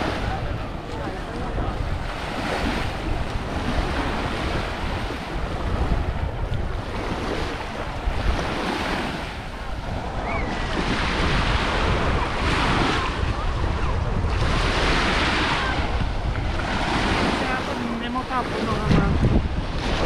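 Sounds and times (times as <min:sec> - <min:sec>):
small waves on sandy shore: 0:00.0 - 0:20.0
wind rumbling on microphone: 0:00.0 - 0:20.0.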